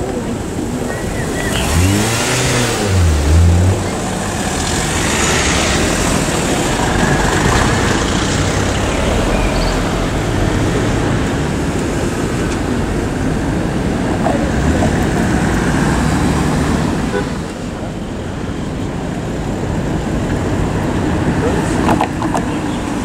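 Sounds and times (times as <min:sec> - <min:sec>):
cars driving past: 0:00.0 - 0:23.0.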